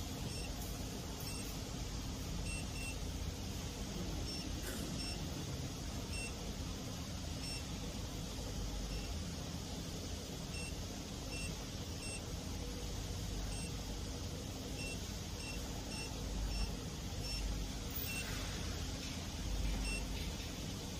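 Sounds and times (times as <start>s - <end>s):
low background hum: 0.0s - 20.9s.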